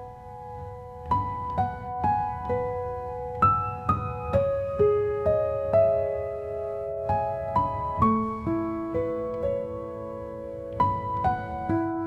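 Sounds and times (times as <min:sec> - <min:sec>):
slow soft piano music: 0:00.0 - 0:12.0.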